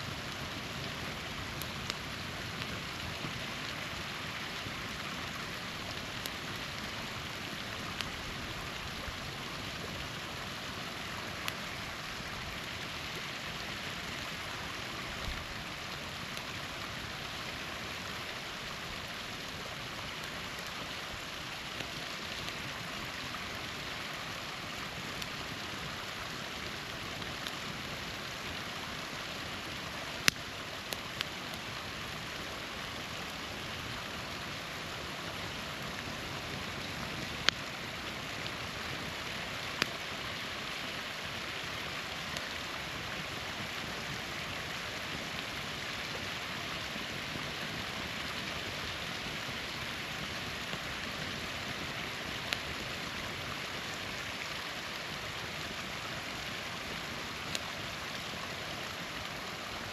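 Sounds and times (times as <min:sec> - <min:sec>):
campfire pops and crackles: 0:00.0 - 0:59.9
small waterfall rushing: 0:00.0 - 0:59.9.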